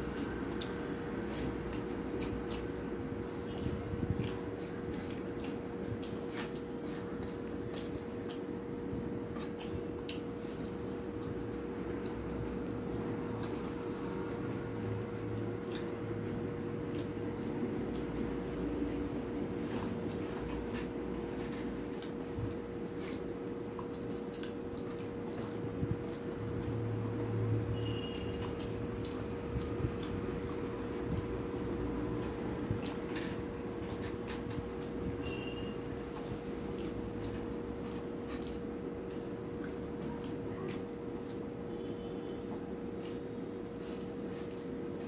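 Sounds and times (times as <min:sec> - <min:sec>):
chewing: 0:00.0 - 0:45.0
steady low hum: 0:00.0 - 0:45.0
wet squishing of food: 0:00.0 - 0:45.0.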